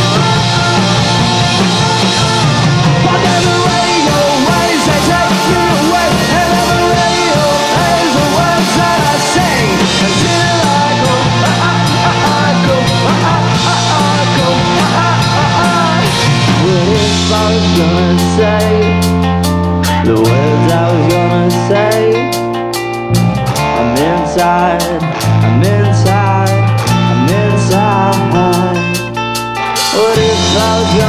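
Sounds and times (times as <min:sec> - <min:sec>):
bass guitar: 0:00.0 - 0:31.0
drum kit: 0:00.0 - 0:31.0
electric guitars: 0:00.0 - 0:31.0.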